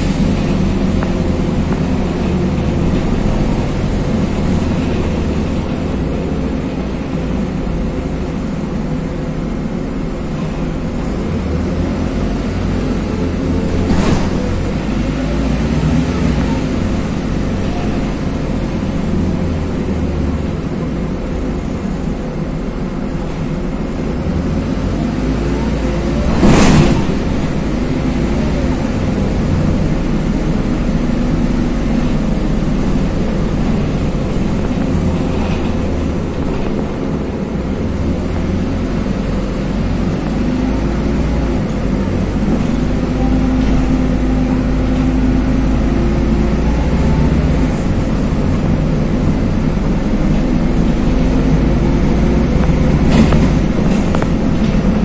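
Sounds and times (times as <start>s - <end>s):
bus engine and drivetrain: 0.0s - 55.0s
road and tyre noise: 0.0s - 55.0s.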